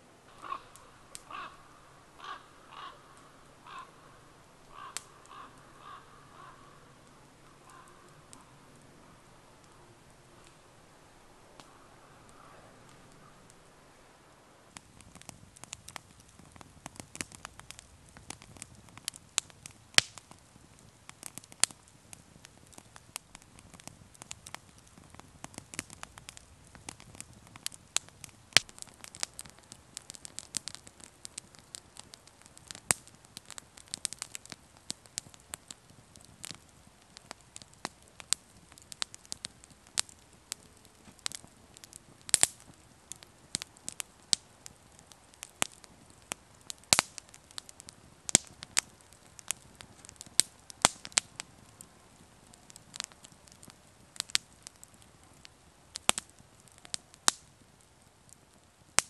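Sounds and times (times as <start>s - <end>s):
wood fire crackling and popping: 0.0s - 59.0s
loud fire snaps: 0.3s - 59.0s.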